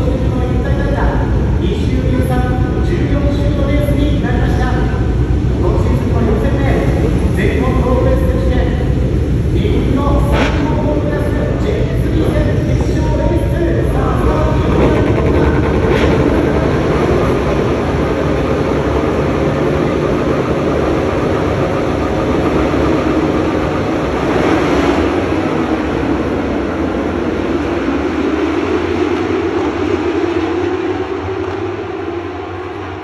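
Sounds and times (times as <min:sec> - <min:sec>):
racing motorcycles passing: 0:04.8 - 0:33.0.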